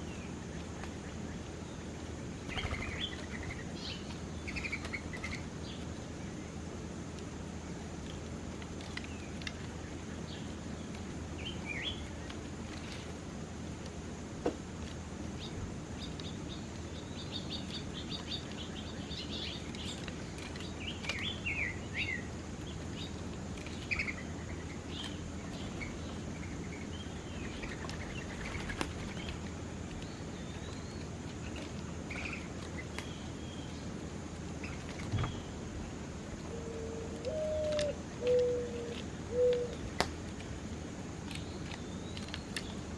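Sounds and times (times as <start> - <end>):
small birds chirping: 0.0 - 6.6, 8.2 - 13.2, 15.3 - 42.9
low outdoor rumble: 0.0 - 42.9.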